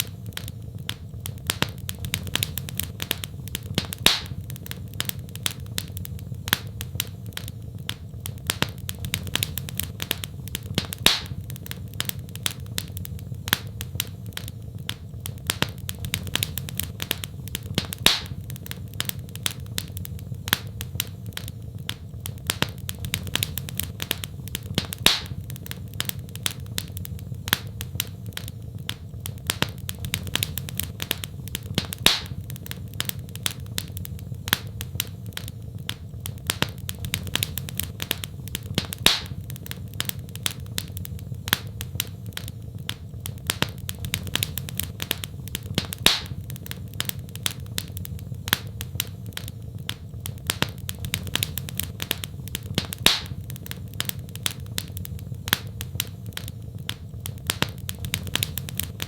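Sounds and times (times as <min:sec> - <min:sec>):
loud fire pops: 0:00.0 - 0:59.0
low steady fire rumble: 0:00.0 - 0:59.0
wood fire crackling: 0:00.0 - 0:59.0.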